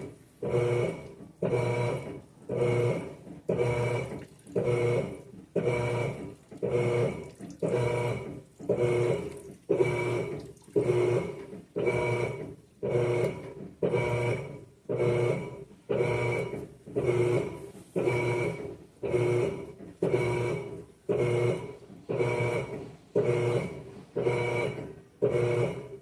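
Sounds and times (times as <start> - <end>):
washing machine water sloshing: 0.0 - 25.7
washing machine motor hum: 0.0 - 26.0.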